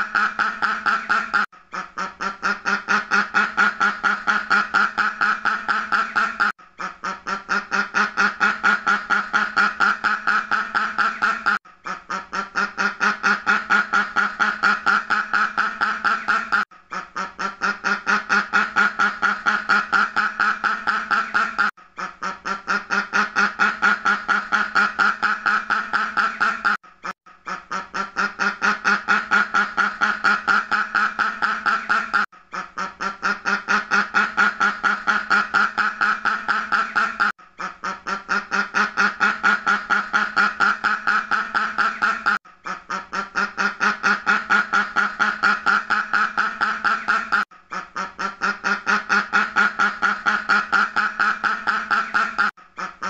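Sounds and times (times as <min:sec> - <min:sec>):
duck quacking: 0:00.0 - 0:53.0.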